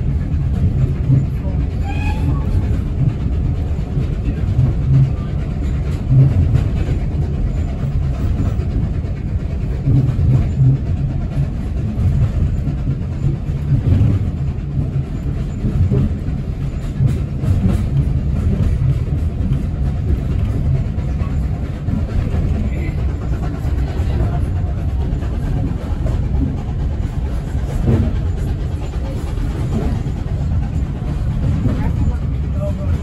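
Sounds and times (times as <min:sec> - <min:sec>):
rumble of train wheels on rails: 0:00.0 - 0:33.0.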